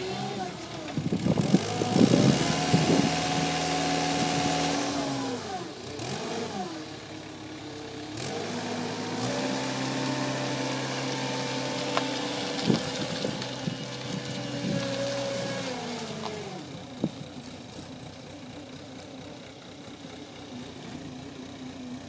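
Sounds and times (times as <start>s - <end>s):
loader engine running hard: 0.0s - 22.0s.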